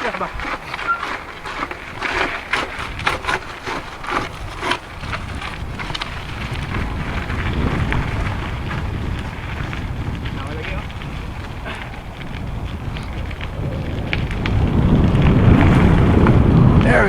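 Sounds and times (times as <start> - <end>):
mountain bike rattling: 0.0 - 17.0
wind buffeting microphone: 0.0 - 17.0.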